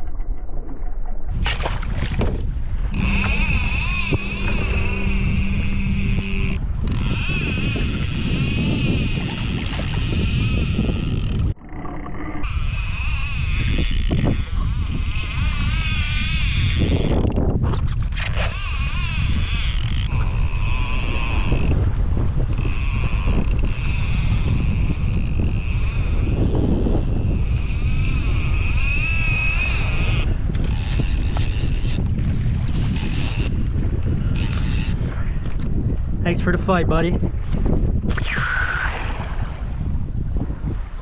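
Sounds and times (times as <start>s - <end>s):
wind rumble on microphone: 0.0s - 41.0s
fishing reel drag whining: 2.8s - 35.7s, 38.0s - 39.8s.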